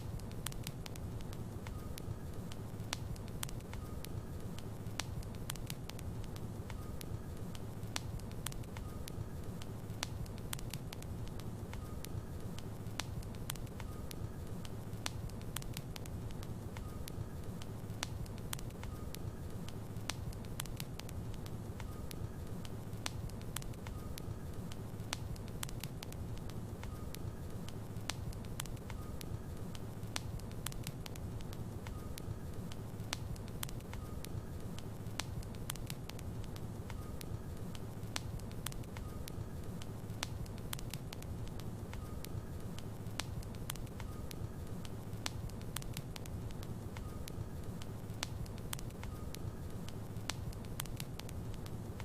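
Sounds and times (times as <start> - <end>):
logs crackling in fireplace: 0.0 - 52.0.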